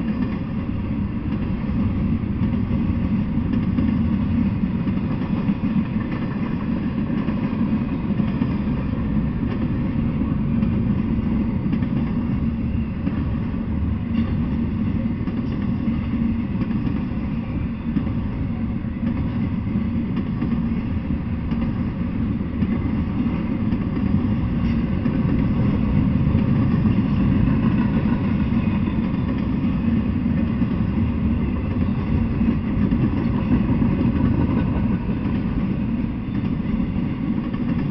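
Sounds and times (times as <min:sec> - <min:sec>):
freight train wheels on rails: 0:00.0 - 0:37.9.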